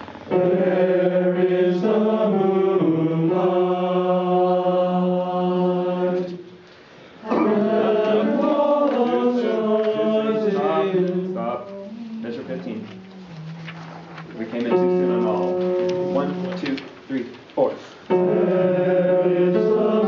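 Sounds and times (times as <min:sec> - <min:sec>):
men's choir singing held notes: 0:00.3 - 0:06.5, 0:07.2 - 0:16.8, 0:18.1 - 0:20.0.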